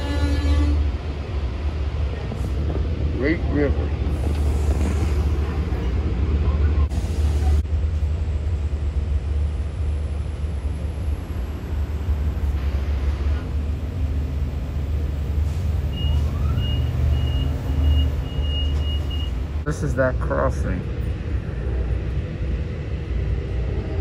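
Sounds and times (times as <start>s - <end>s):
passing train: 0.0s - 24.0s
train rumble: 0.0s - 24.0s.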